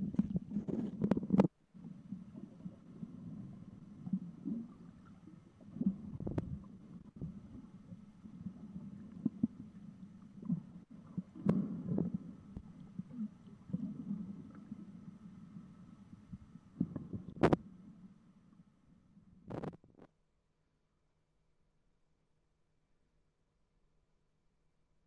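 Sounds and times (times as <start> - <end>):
underwater rumbling and sloshing: 0.0 - 20.1.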